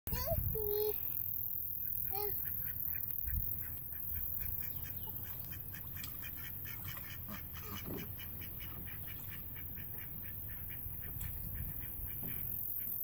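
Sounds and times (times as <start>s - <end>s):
ducks quacking: 2.2s - 13.0s.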